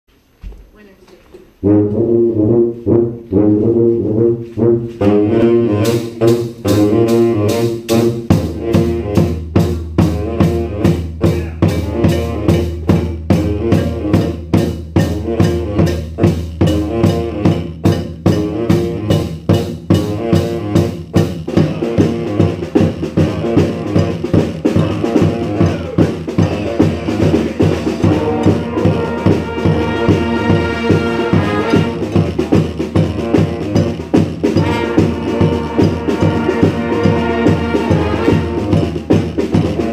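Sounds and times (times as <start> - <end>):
brass band playing rock: 1.6 - 39.9
horn lines: 1.6 - 39.9
drum beat: 3.0 - 39.9.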